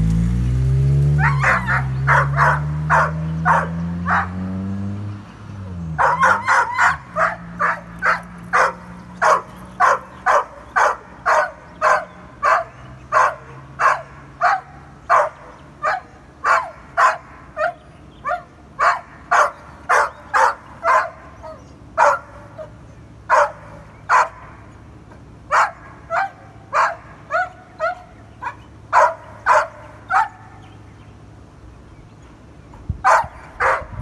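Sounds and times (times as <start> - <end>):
dog barking: 1.2 - 4.5, 6.0 - 24.6, 25.5 - 30.6, 33.0 - 34.0.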